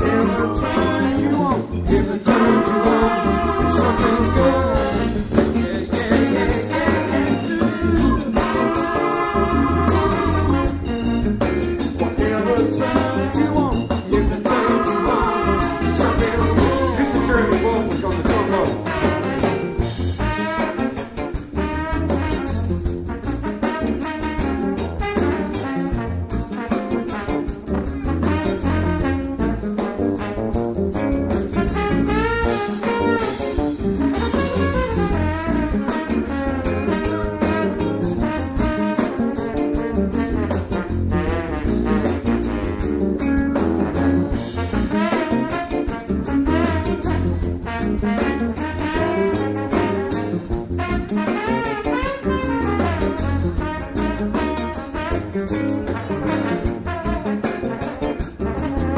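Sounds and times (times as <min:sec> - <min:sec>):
live funk band playing: 0:00.0 - 0:58.9
trombone lead line: 0:00.0 - 0:58.9.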